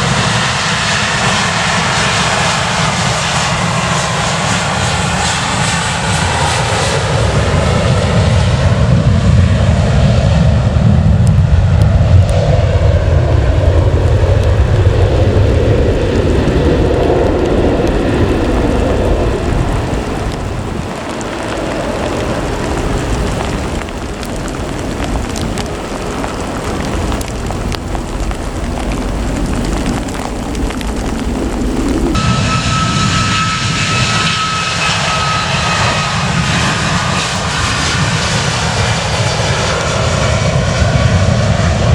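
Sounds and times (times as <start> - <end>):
jet engines rumbling: 0.0 - 41.9.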